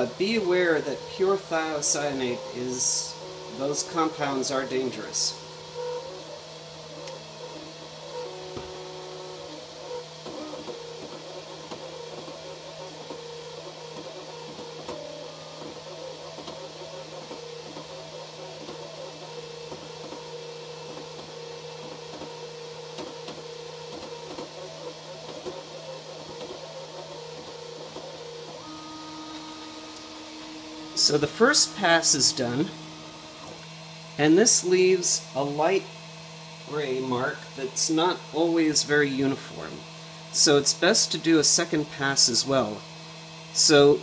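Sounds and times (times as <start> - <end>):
stepper motors whining: 0.0 - 44.0.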